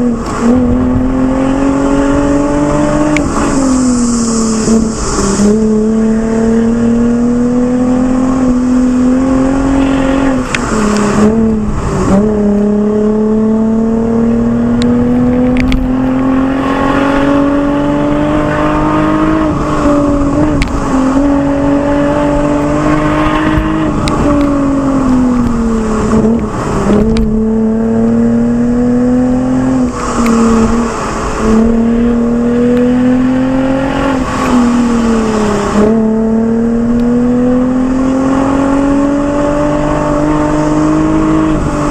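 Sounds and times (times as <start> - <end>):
car engine and exhaust revving: 0.0 - 41.9.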